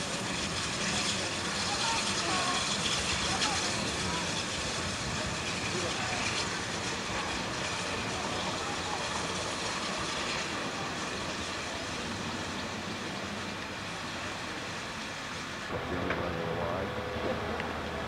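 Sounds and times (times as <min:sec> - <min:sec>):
steam locomotive running: 0:00.0 - 0:18.0.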